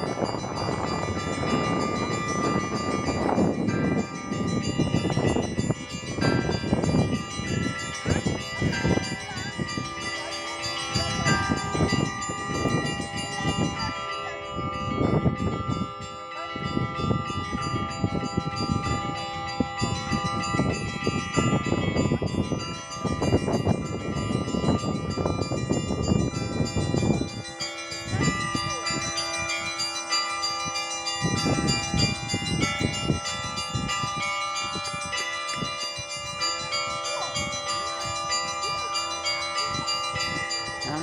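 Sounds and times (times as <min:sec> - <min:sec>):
church bells ringing a peal: 0:00.0 - 0:41.0.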